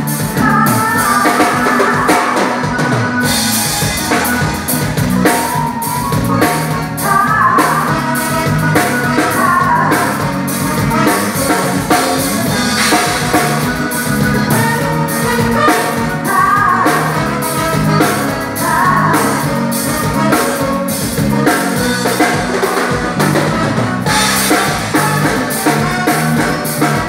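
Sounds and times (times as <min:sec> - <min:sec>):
person singing: 0:00.0 - 0:22.9
drum kit and percussion: 0:00.0 - 0:27.0.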